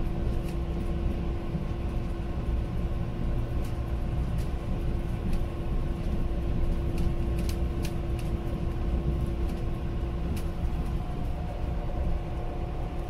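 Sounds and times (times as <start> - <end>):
passenger train rumbling: 0.0 - 13.0
steady hum: 0.0 - 13.0.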